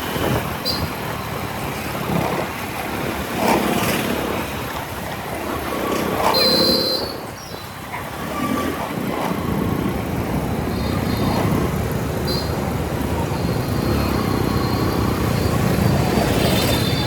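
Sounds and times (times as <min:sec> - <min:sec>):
motorcycle engine and road noise: 0:00.0 - 0:17.0
wind rush on helmet: 0:00.0 - 0:17.0.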